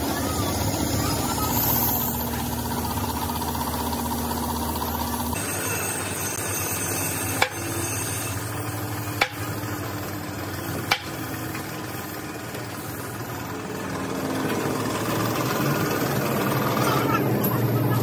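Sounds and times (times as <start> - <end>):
steady machine noise: 0.0 - 18.0.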